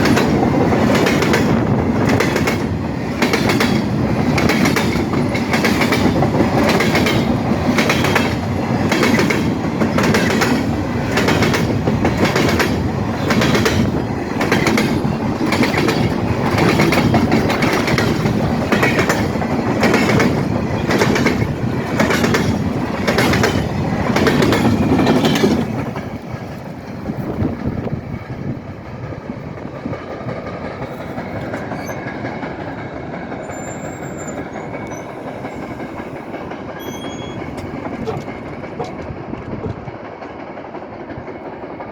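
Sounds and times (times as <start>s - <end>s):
continuous train rumble: 0.0s - 41.9s
train wheels clacking over rail joints: 0.0s - 41.9s.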